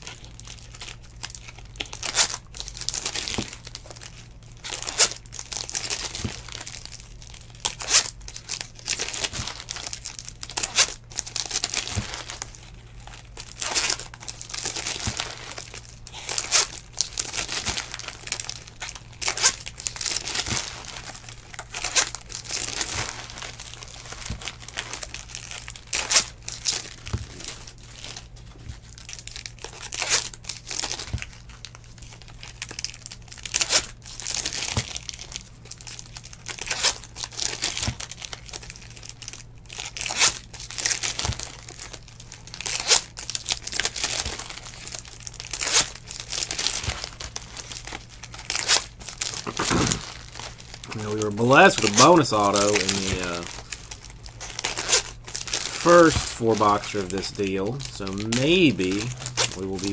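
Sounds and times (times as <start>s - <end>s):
faint low hum: 0.0s - 59.9s
foil wrappers crinkling and tearing: 0.0s - 59.9s.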